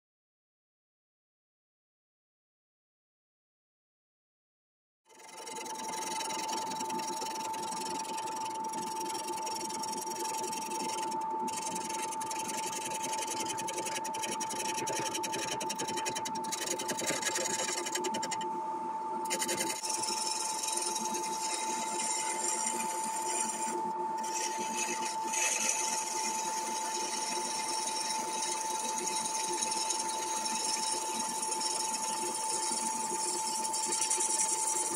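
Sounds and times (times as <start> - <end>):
gouge scraping spinning wood: 5.1 - 18.5, 19.2 - 34.9
lathe motor whine: 5.1 - 34.9.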